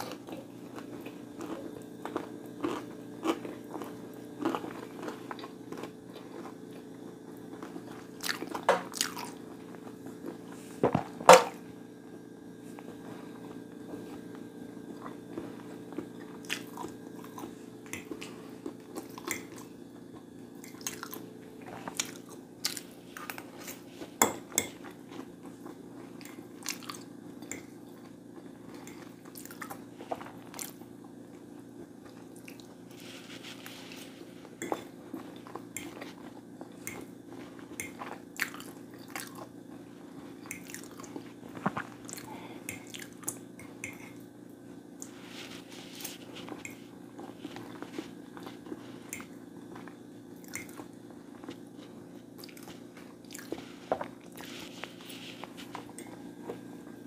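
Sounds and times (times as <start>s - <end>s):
crunchy chewing: 0.0s - 10.8s, 12.6s - 57.0s.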